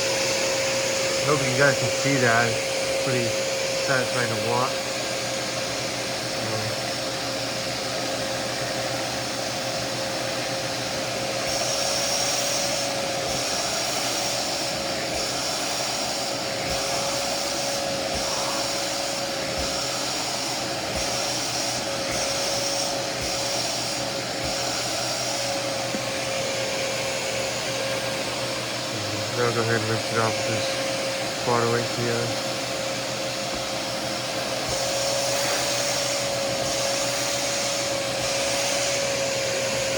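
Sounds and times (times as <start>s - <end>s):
carpet shampooer motor whine: 0.0s - 39.9s.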